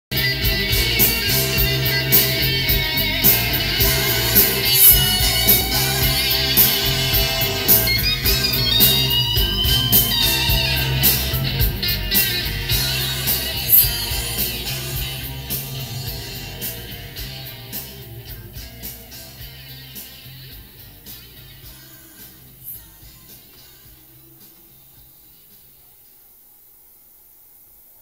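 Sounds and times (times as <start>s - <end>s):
rock music with guitar and drums: 0.1s - 25.6s.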